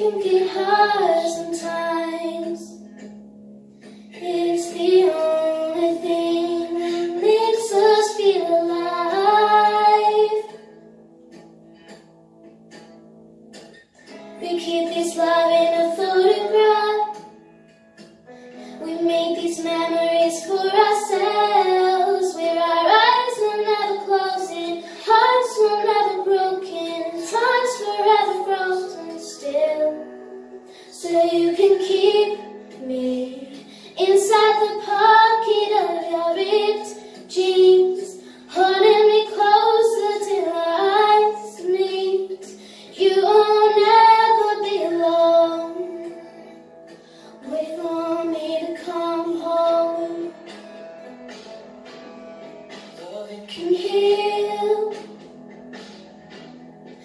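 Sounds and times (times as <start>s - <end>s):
girl singing: 0.0s - 3.1s, 4.1s - 10.7s, 14.4s - 17.4s, 18.6s - 46.6s, 47.2s - 50.6s, 53.0s - 55.2s.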